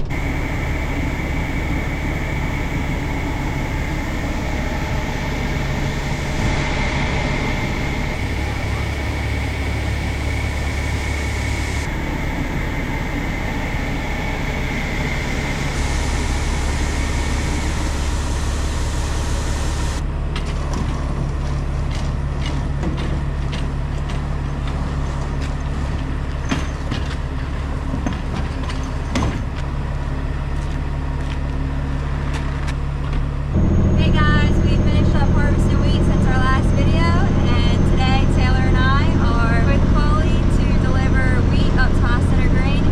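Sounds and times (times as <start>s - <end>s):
road noise: 0.0s - 42.9s
truck engine running: 0.0s - 42.9s.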